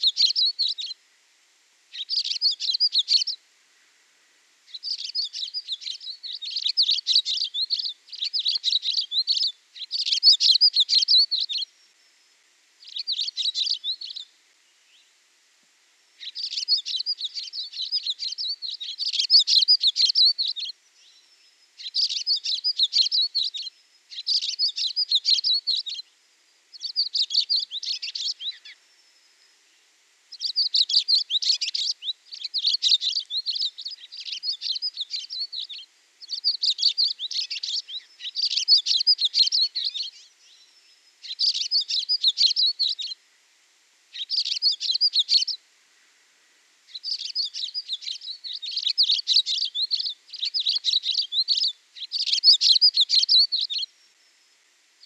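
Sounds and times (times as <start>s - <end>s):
songbirds chirping trills: 0.0s - 1.3s, 1.9s - 55.0s.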